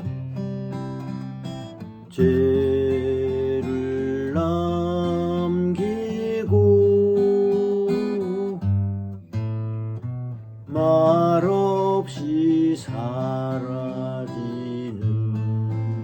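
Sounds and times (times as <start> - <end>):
person singing folk song: 0.0 - 9.8, 10.4 - 16.0
acoustic guitar: 0.0 - 16.0.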